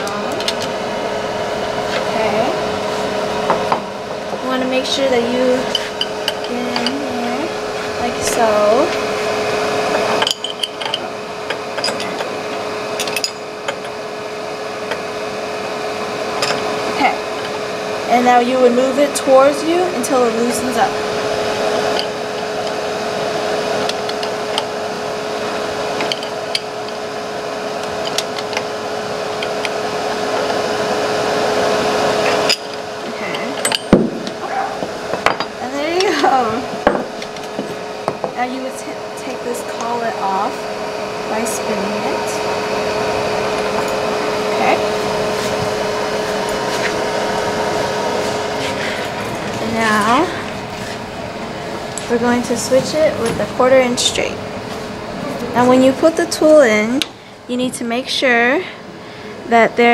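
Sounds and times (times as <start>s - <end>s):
steady machine hum: 0.0s - 59.9s
vacuum running: 0.0s - 59.9s.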